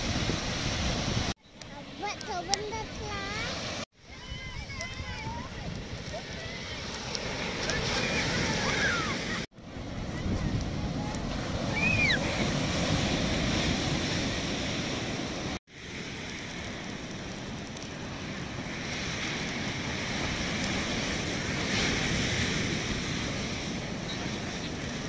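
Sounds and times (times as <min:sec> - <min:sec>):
ocean surf breaking: 0:00.0 - 0:25.0
wind on microphone: 0:00.0 - 0:25.0.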